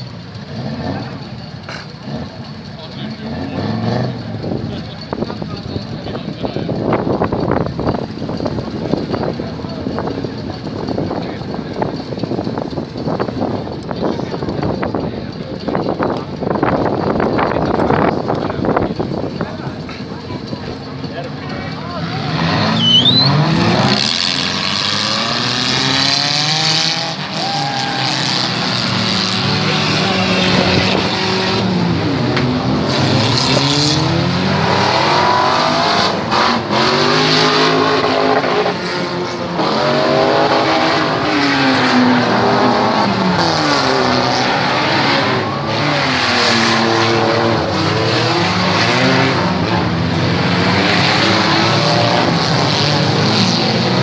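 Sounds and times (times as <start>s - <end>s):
car engines revving hard: 0.0s - 54.0s
tyres skidding: 0.0s - 54.0s.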